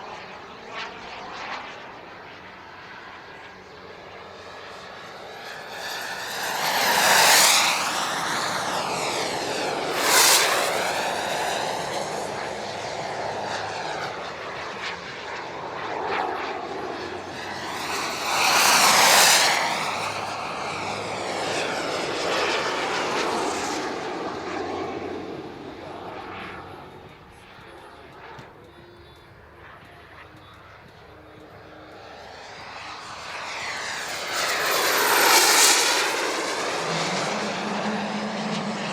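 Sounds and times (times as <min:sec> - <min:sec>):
model jet turbines whining: 0:00.0 - 0:38.9.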